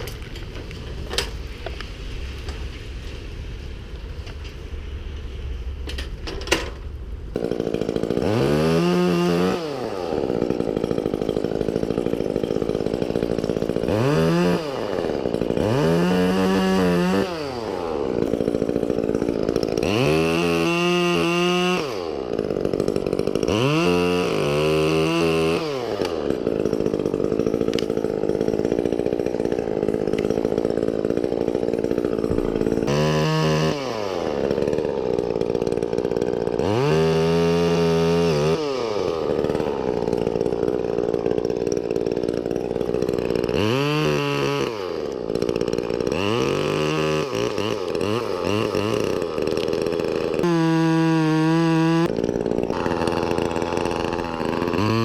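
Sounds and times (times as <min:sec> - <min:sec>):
chainsaw revving: 0:06.6 - 0:55.0.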